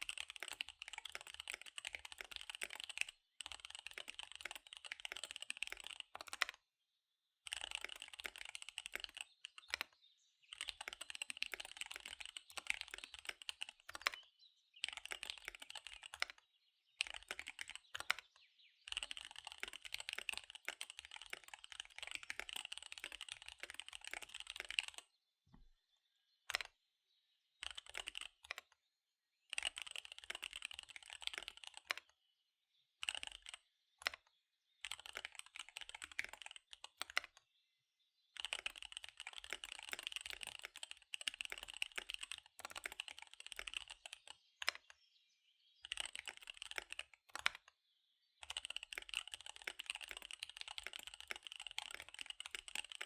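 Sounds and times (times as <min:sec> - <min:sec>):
mechanical keyboard typing: 0:00.0 - 0:06.6, 0:07.4 - 0:14.2, 0:14.8 - 0:16.4, 0:17.0 - 0:25.0, 0:26.5 - 0:26.7, 0:27.6 - 0:28.7, 0:29.5 - 0:32.1, 0:33.0 - 0:34.2, 0:34.8 - 0:37.4, 0:38.4 - 0:44.9, 0:45.8 - 0:47.7, 0:48.4 - 0:53.0.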